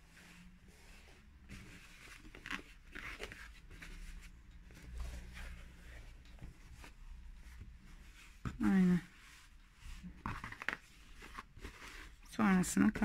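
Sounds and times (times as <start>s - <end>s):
fabric rustling: 0.0s - 13.0s
cardboard box being handled: 0.8s - 12.2s.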